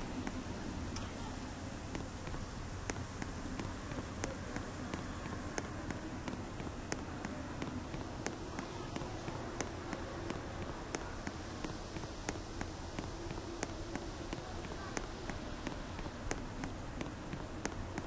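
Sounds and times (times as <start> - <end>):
footsteps clicking: 0.0 - 18.0
steady low hum: 0.0 - 18.0.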